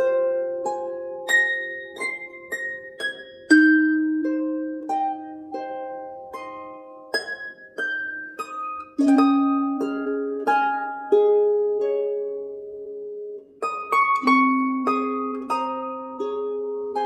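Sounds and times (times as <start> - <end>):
slow plucked harp-like melody: 0.0 - 17.0.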